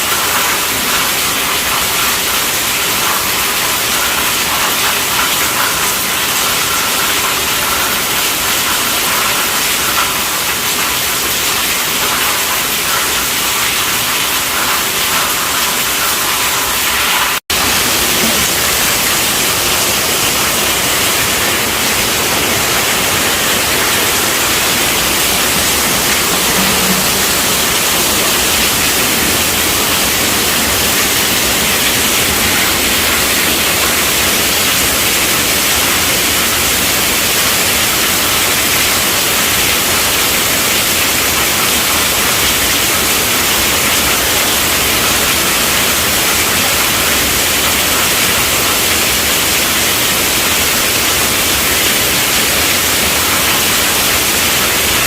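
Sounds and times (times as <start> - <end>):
heavy rain drumming on a tent: 0.0 - 55.0.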